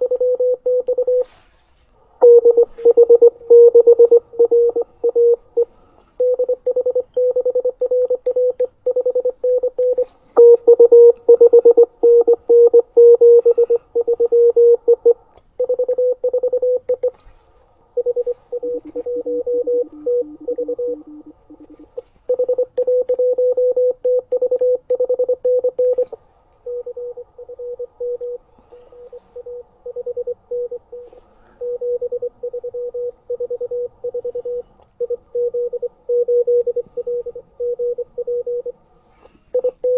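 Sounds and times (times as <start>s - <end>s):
morse code tone: 0.0s - 1.3s, 2.2s - 17.2s, 18.0s - 38.8s, 39.6s - 39.9s
higher morse tone: 2.2s - 17.2s, 18.0s - 38.7s.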